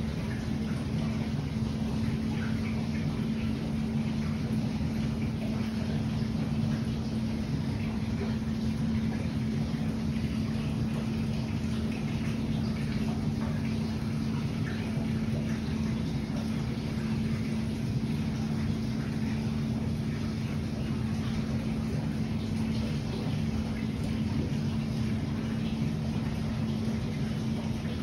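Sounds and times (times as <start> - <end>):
aquarium filter humming: 0.0 - 28.0
moving water washing: 0.0 - 28.0.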